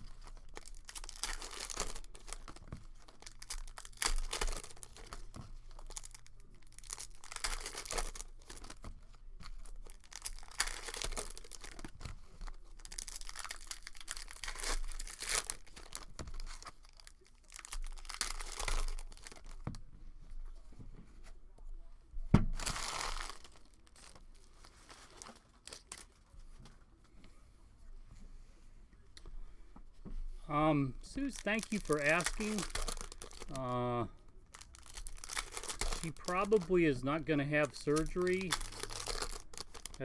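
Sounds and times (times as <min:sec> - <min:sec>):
packs being torn open: 0:00.0 - 0:19.6, 0:22.6 - 0:26.2, 0:31.1 - 0:40.0
plastic wrappers crinkling: 0:00.0 - 0:19.8, 0:22.5 - 0:26.5, 0:30.8 - 0:40.0.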